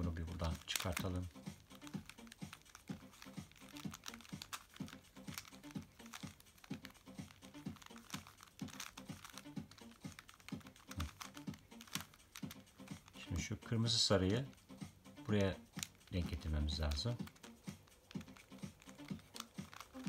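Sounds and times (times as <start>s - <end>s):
puzzle cube plastic clicking: 0.2s - 13.4s, 14.1s - 20.0s.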